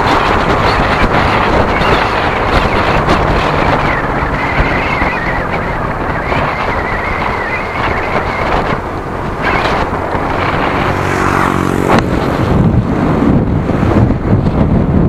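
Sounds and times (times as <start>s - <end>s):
tyres and engine rumble: 0.0s - 15.0s
wind buffeting microphone: 0.0s - 15.0s.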